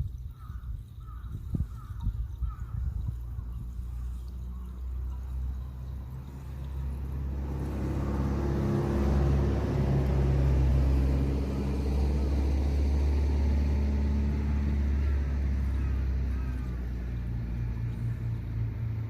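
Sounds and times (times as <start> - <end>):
engine humming: 1.8 - 19.0.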